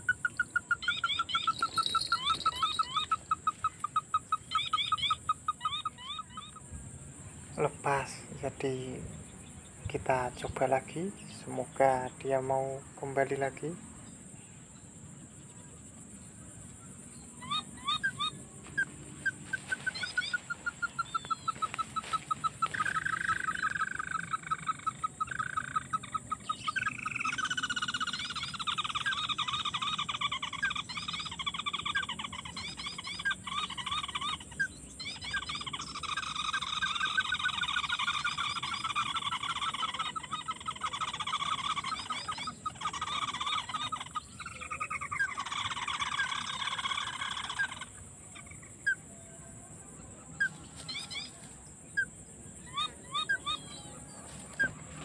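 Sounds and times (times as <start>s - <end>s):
bird trills: 0.0s - 6.8s, 14.7s - 55.0s.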